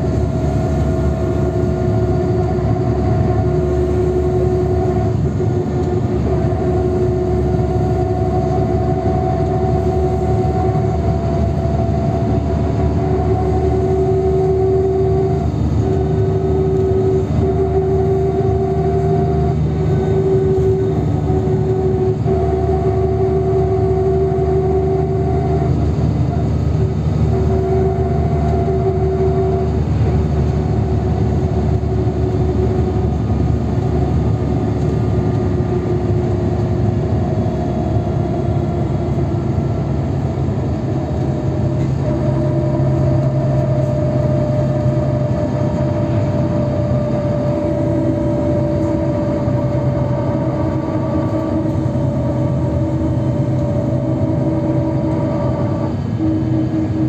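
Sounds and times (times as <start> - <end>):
bus engine drone: 0.0 - 57.0
higher whine: 0.0 - 57.0
tyre road noise: 0.0 - 57.0
whining tone: 0.0 - 57.0.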